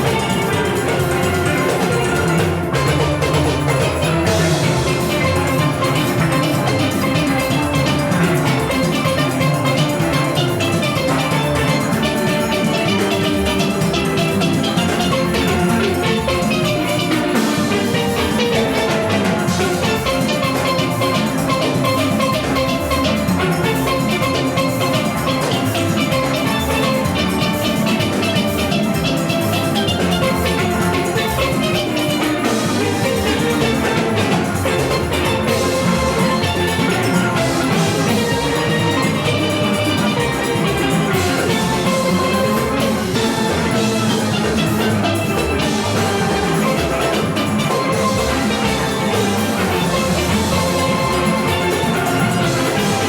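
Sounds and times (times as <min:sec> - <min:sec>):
drum and percussion rhythm: 0:00.0 - 0:53.0
steel pans playing: 0:00.0 - 0:53.0.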